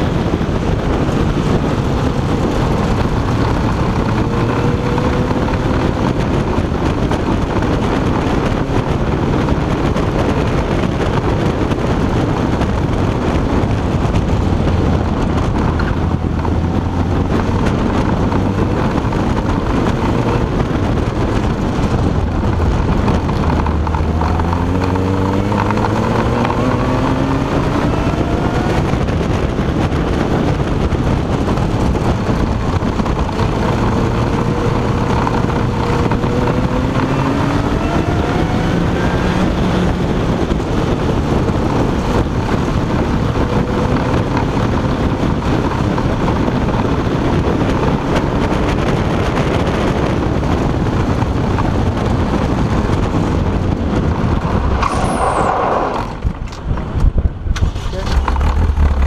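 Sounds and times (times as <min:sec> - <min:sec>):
car engine revving hard: 0:00.0 - 0:11.6, 0:14.4 - 0:56.2
wind and road noise: 0:00.0 - 0:59.0.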